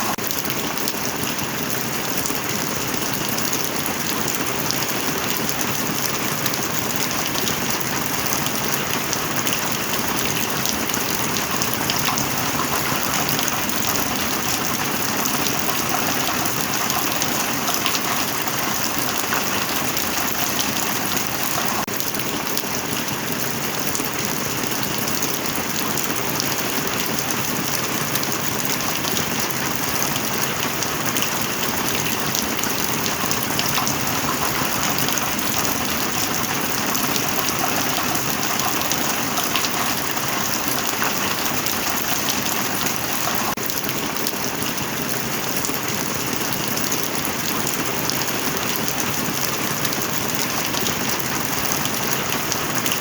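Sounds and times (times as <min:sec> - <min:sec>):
heavy rain on hard surfaces: 0:00.0 - 0:53.0.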